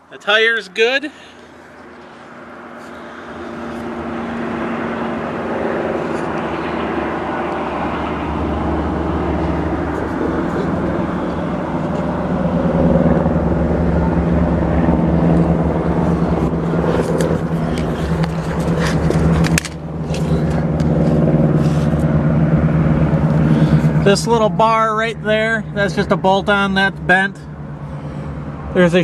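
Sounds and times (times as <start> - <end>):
steady engine drone: 1.0 - 29.0
low hum: 1.4 - 28.7.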